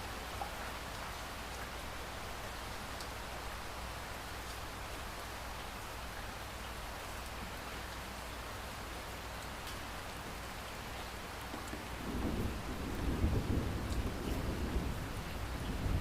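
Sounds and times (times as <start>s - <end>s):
rain falling on a surface: 0.0s - 16.0s.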